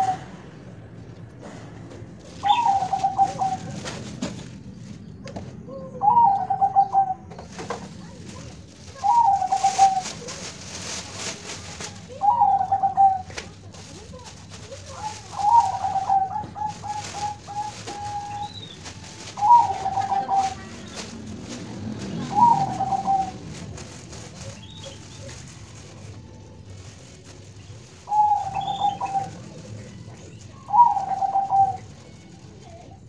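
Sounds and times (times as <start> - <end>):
dove cooing: 0.0 - 0.4, 2.2 - 4.4, 5.3 - 7.9, 8.9 - 10.4, 12.0 - 13.8, 15.0 - 33.0.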